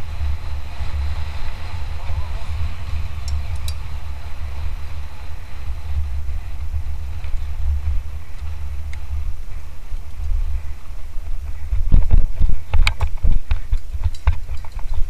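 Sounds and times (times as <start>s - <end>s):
bike clicks and rattles: 0.0s - 15.0s
wind buffeting microphone: 0.0s - 15.0s.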